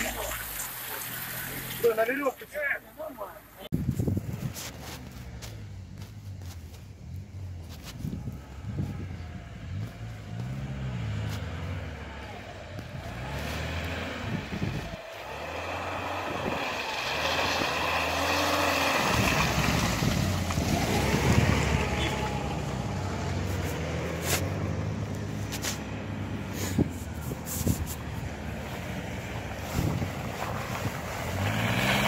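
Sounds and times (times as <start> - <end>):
wheels churning mud: 0.0 - 32.0
engine revving: 4.7 - 32.0.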